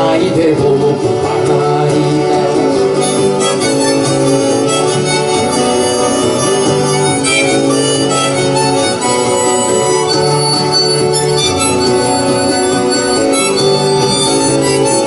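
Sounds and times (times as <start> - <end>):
guitar accompaniment: 0.0 - 15.0
harmonica playing: 2.4 - 15.0.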